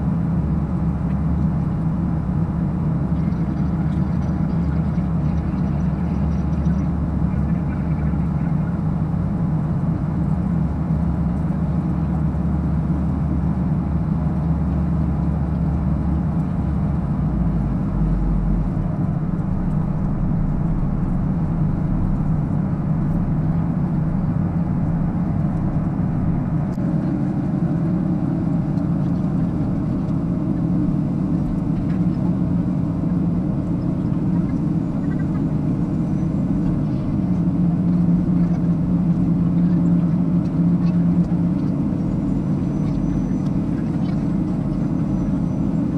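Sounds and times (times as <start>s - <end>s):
airflow over fuselage: 0.0s - 45.9s
jet engines roaring in cabin: 0.0s - 45.9s.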